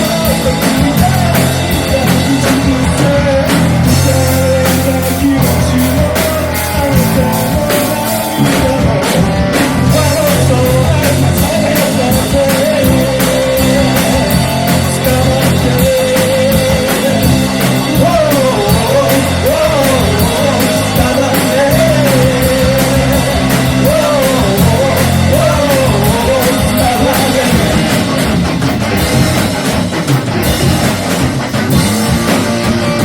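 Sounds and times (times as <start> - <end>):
drum kit: 0.0 - 33.0
guitars: 0.0 - 33.0
punk rock band playing: 0.0 - 33.0
sliding lead melody: 0.0 - 33.0.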